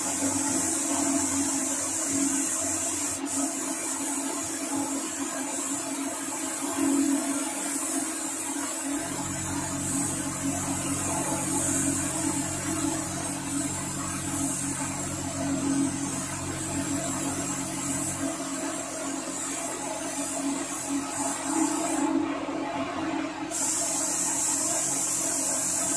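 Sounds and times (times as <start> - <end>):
paint spray gun hissing: 0.0 - 22.1, 23.5 - 25.9.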